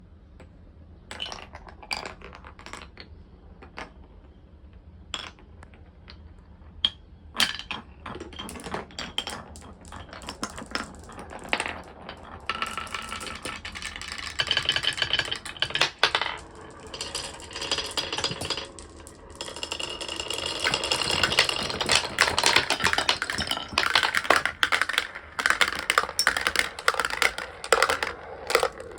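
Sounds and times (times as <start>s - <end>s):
marbles clattering on wooden track: 1.1s - 4.3s, 5.2s - 28.9s.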